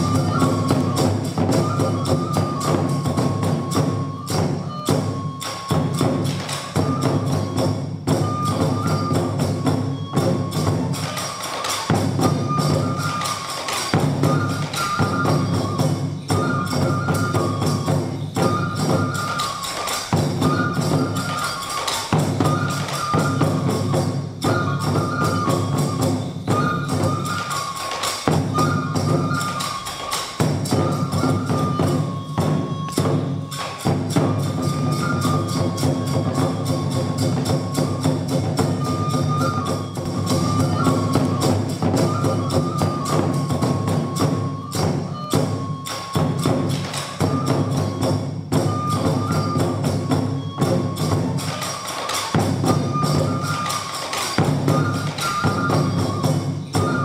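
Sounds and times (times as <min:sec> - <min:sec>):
taiko drumming: 0:00.0 - 0:57.0
transverse flute phrase: 0:00.0 - 0:57.0.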